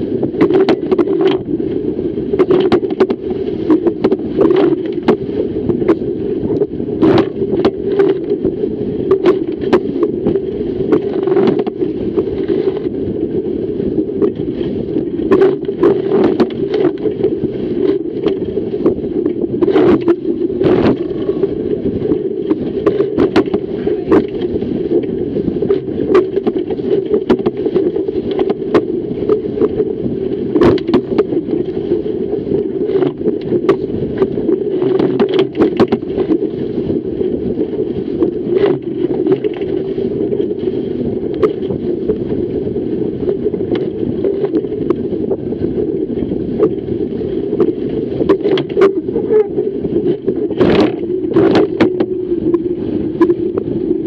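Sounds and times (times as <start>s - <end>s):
water and wind rushing: 0.0s - 54.0s
waves slapping boat bow: 0.0s - 54.0s.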